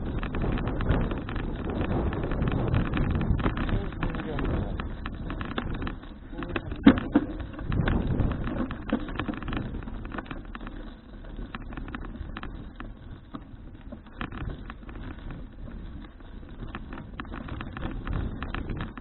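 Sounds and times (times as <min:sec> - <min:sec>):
bicycle clicks and rattles: 0:00.0 - 0:19.0
steady low rumble: 0:00.0 - 0:19.0
wind buffeting microphone: 0:00.0 - 0:19.0.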